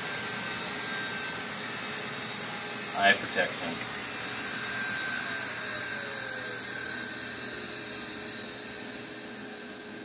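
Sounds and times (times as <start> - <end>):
faint falling whine: 0.0 - 10.0
hard drive whirring: 0.0 - 10.0.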